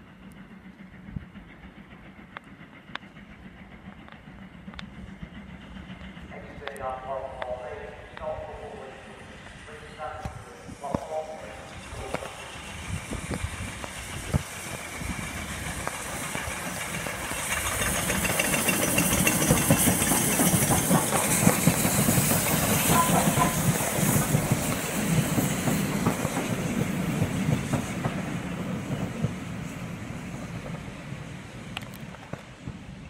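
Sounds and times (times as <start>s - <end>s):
train wheels clattering on rails: 0.0s - 8.3s, 10.2s - 32.9s
steam hissing: 0.0s - 31.8s.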